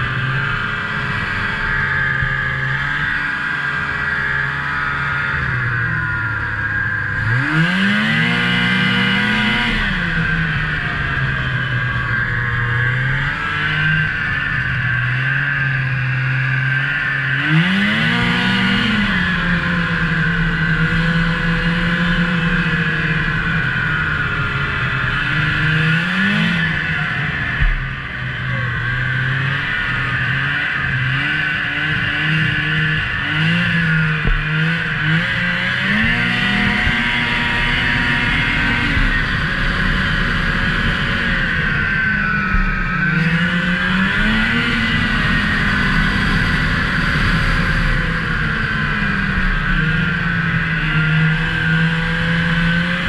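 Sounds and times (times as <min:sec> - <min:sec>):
high steady whine: 0:00.0 - 0:53.0
snowmobile engine running: 0:00.0 - 0:53.0.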